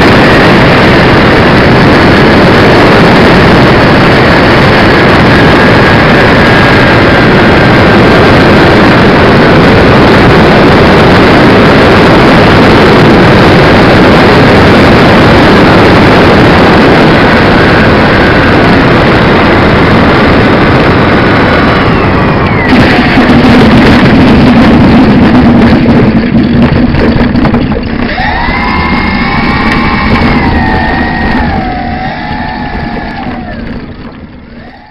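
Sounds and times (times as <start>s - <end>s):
faint motor whine: 0.0s - 26.7s, 27.8s - 34.9s
low hum of plane rolling: 0.0s - 34.9s
propeller noise: 0.0s - 34.9s
rushing wind: 0.0s - 34.9s.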